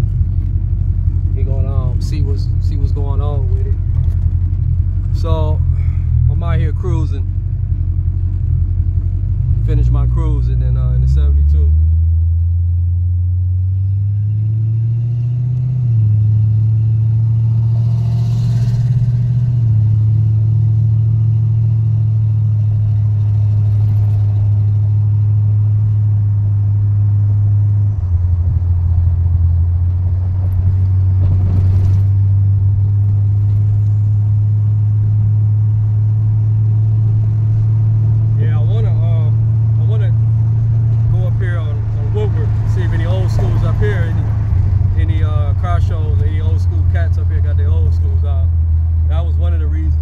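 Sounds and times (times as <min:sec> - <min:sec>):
car engine drone: 0:00.0 - 0:50.0
road noise: 0:00.0 - 0:50.0.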